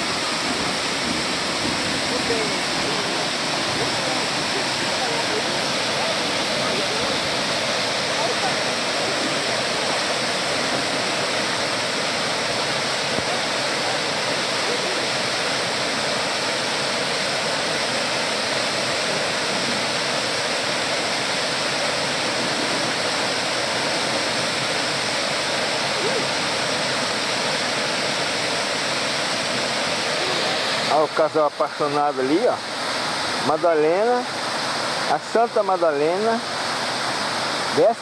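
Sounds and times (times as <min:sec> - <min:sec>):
waterfall rushing over rocks: 0:00.0 - 0:38.0.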